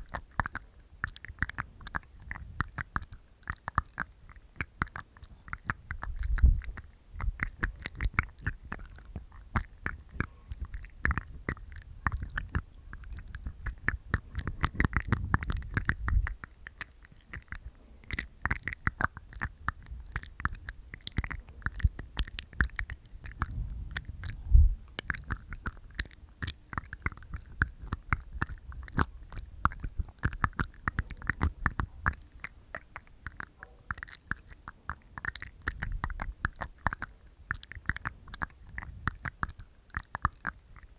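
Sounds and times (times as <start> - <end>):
teeth taps: 0.0 - 40.9
wet tongue clicks and pops: 0.0 - 40.9.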